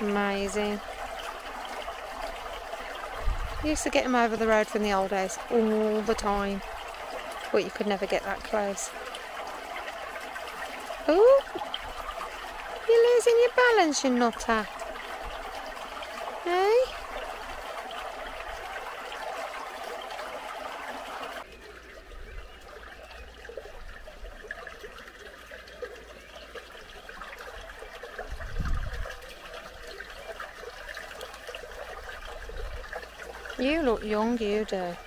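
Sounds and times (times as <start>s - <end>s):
water trickling: 0.0s - 35.0s.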